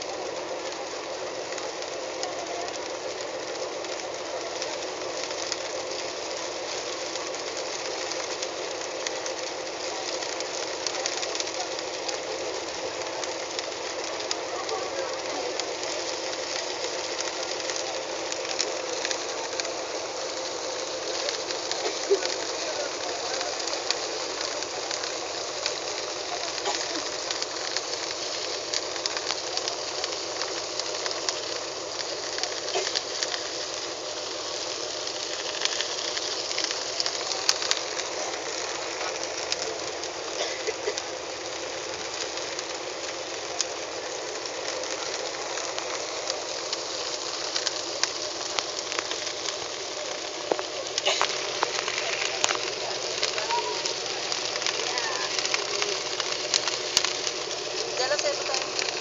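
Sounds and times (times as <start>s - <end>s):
water: 0.0s - 59.0s
wind: 0.0s - 59.0s.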